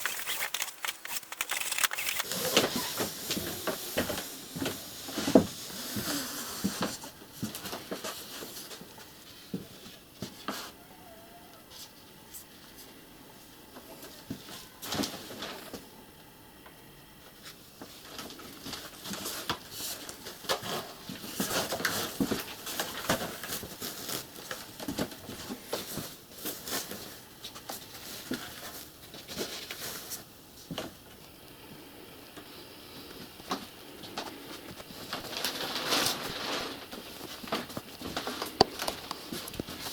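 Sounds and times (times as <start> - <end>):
rustling and scraping of handwork: 0.0 - 11.0, 17.3 - 31.1, 32.4 - 39.9.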